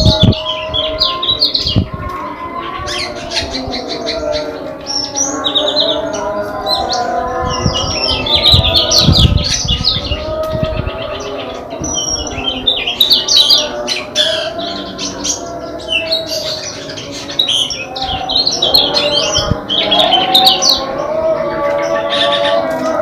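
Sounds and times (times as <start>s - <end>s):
small songbirds chirping: 0.0s - 23.0s.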